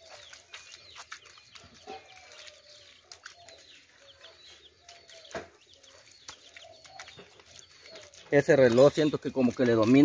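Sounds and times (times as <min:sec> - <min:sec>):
chickens clucking: 0:00.0 - 0:10.0
small birds chirping: 0:00.0 - 0:10.0.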